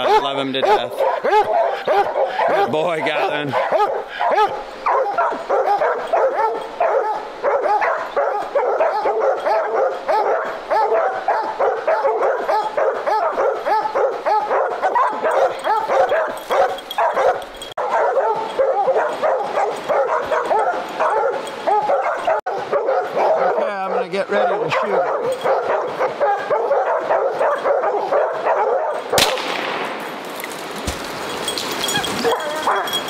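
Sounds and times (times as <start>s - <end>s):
hounds barking and baying: 0.0s - 29.6s, 31.2s - 33.0s.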